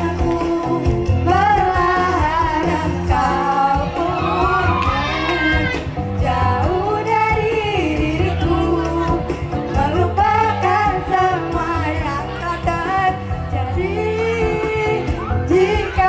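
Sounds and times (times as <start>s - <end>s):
backing music with bass: 0.0s - 16.0s
woman singing pop song: 0.0s - 16.0s.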